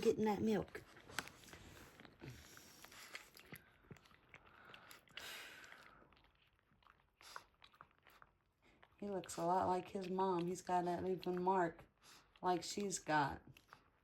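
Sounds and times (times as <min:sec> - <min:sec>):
puppies suckling: 0:00.0 - 0:14.0.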